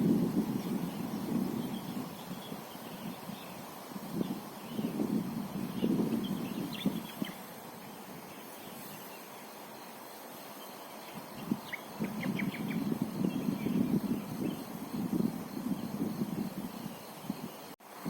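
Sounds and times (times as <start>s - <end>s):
rough low rustling noise: 0.0s - 18.0s
small birds chirping: 0.4s - 17.8s.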